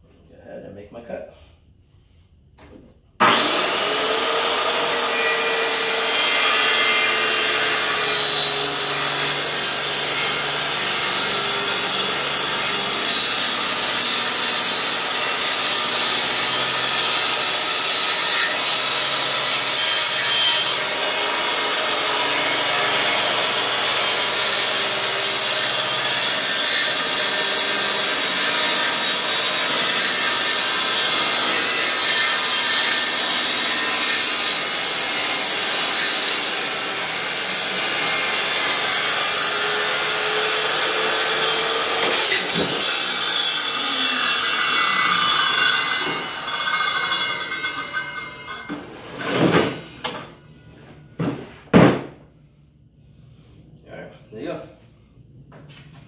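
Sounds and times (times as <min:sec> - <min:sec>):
circular saw cutting plywood: 0:03.2 - 0:49.3.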